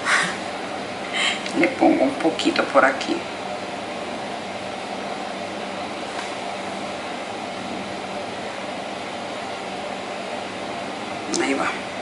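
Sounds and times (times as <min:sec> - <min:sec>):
faint hum: 0:00.0 - 0:12.0
steady background hiss: 0:00.0 - 0:12.0.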